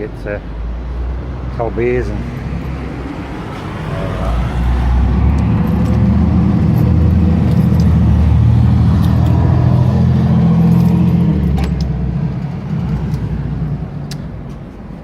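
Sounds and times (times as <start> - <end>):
vehicle engine rumble: 0.1 - 15.0.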